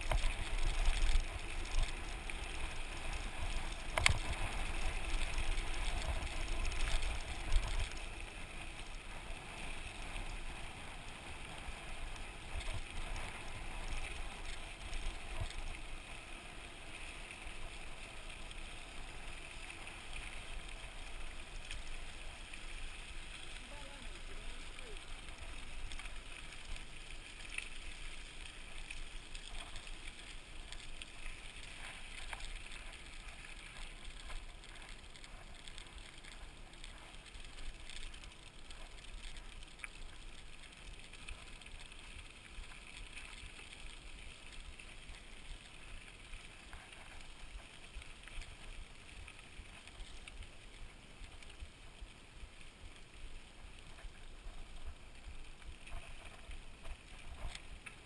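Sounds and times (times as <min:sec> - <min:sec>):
bike tyres on dirt trail: 0:00.0 - 0:58.0
small clicks and rattles: 0:00.0 - 0:58.0.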